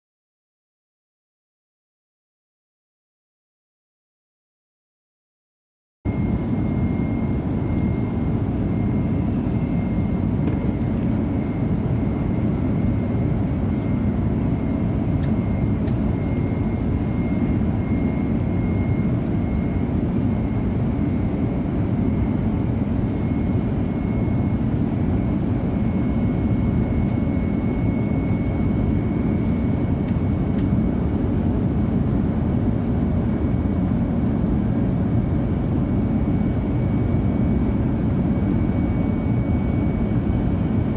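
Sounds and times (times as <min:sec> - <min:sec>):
faint high whine: 0:06.1 - 0:40.9.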